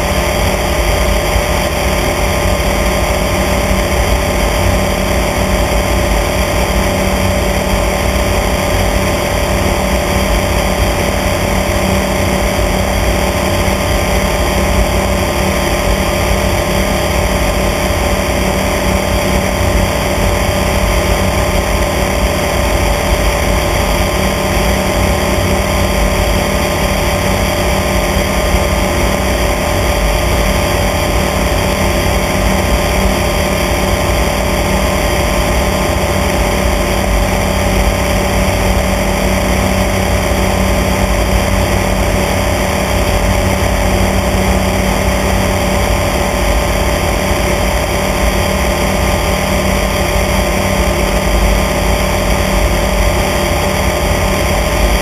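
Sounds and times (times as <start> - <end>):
light aircraft engine droning: 0.0 - 55.0
rushing air noise: 0.0 - 55.0.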